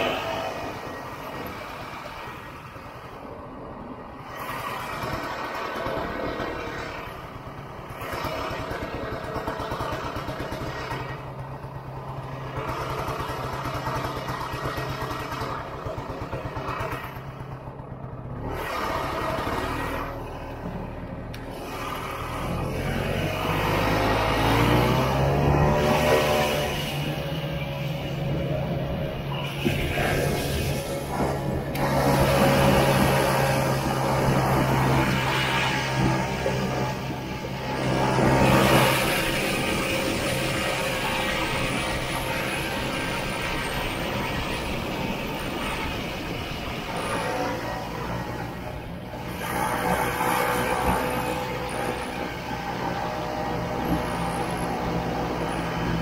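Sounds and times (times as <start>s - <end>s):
snowmobile engine revving: 4.2s - 56.0s.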